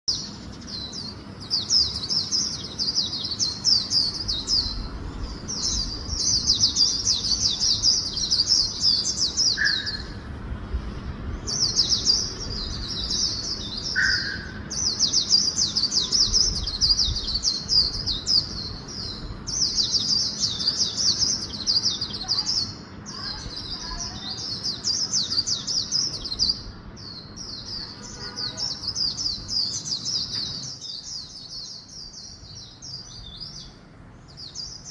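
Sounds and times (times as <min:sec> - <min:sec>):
bird singing high twittering song: 0:00.0 - 0:34.9.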